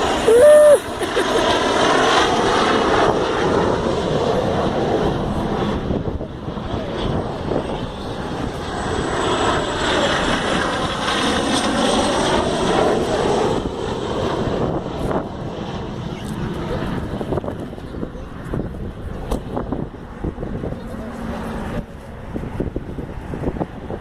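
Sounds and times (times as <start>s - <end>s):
jets passing overhead: 0.0s - 24.0s.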